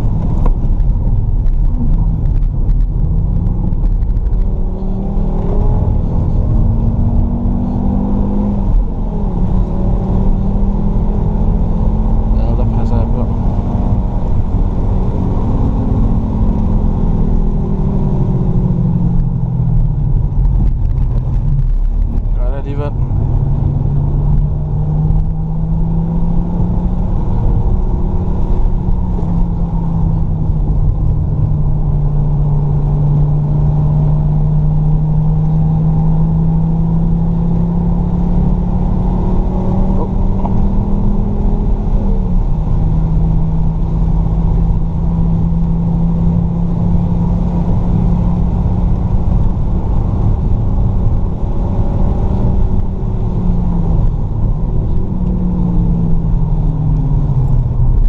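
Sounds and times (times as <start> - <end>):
road noise rushing: 0.0 - 58.0
car engine revving hard: 4.4 - 20.2, 22.1 - 58.0.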